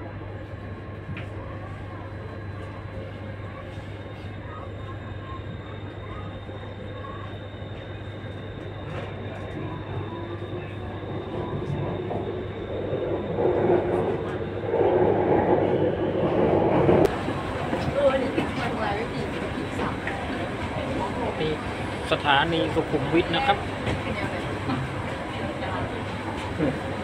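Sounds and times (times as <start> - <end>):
subway train running in tunnel: 0.0 - 27.0.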